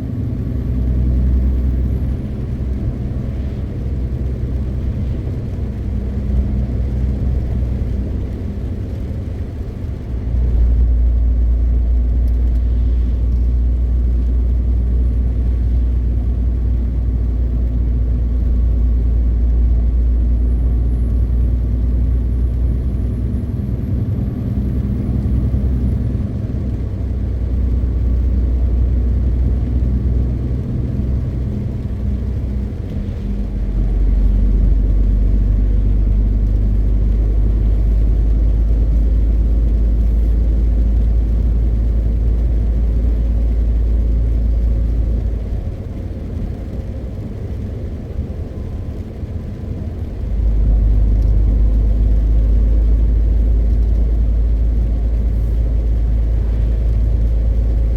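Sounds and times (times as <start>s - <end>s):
truck diesel engine droning: 0.0s - 57.9s
tyre and road noise: 0.0s - 57.9s.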